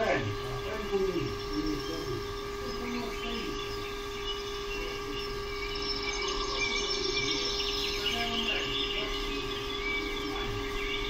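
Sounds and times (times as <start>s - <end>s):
electrical hum: 0.0s - 11.0s
small birds chirping: 0.0s - 11.0s.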